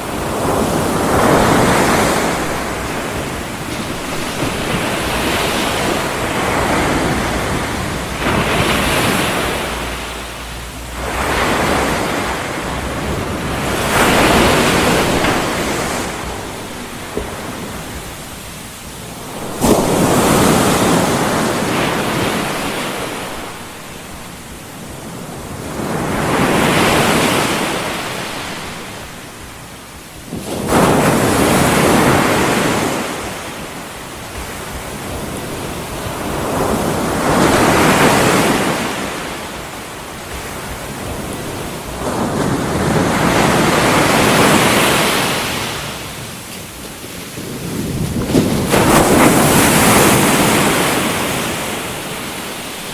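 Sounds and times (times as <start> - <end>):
ocean waves breaking: 0.0 - 52.9.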